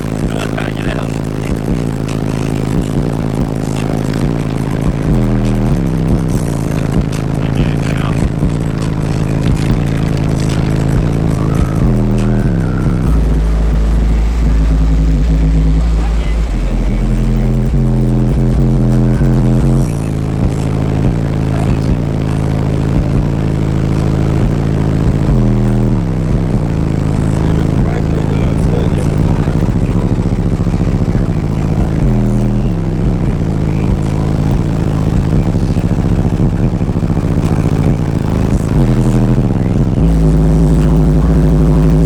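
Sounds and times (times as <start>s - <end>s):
deep subwoofer bass: 0.0s - 42.0s.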